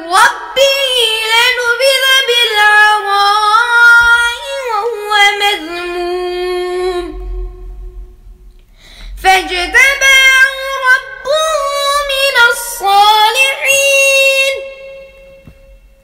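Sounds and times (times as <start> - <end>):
melodic recitation in high voice: 0.0 - 7.8, 9.1 - 15.9.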